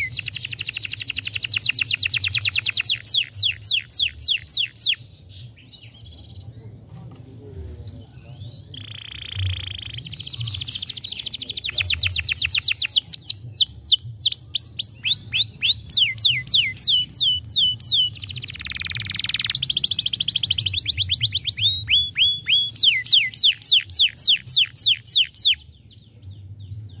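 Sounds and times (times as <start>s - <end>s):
canary singing: 0.0s - 6.4s, 7.9s - 27.0s.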